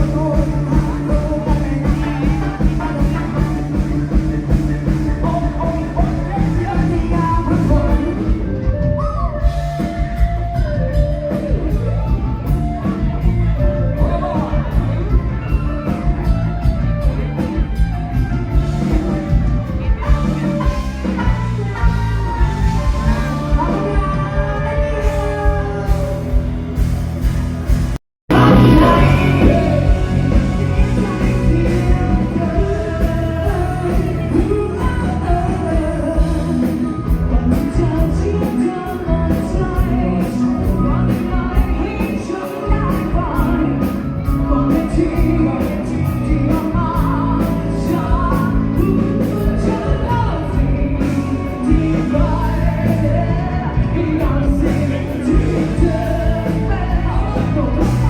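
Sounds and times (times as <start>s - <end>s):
person singing: 0.0s - 26.6s, 28.3s - 58.0s
live rock band: 0.0s - 58.0s.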